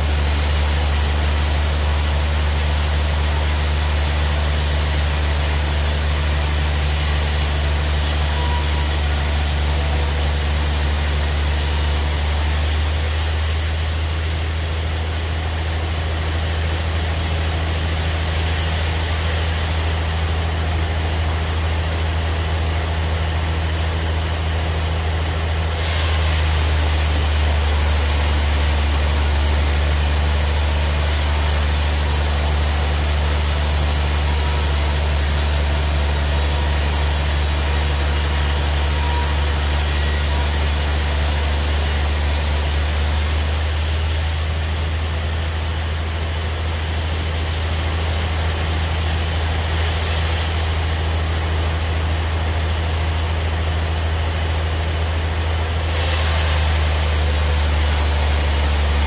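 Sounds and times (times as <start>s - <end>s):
band saw machine hum and hiss: 0.0s - 59.0s.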